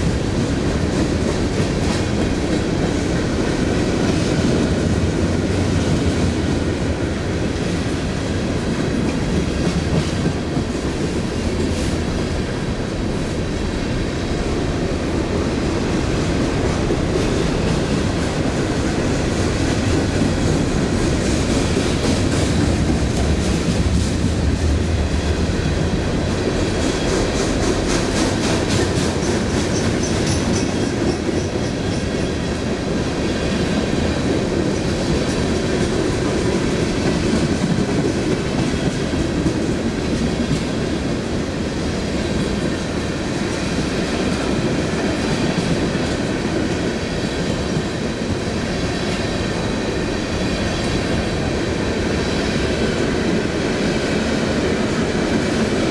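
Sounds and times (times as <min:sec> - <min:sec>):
train cars rumbling past: 0:00.0 - 0:55.9.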